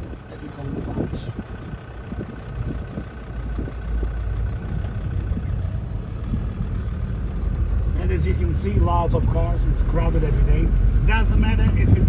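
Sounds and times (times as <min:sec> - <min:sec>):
jeep engine and tyre noise: 0:00.0 - 0:12.0.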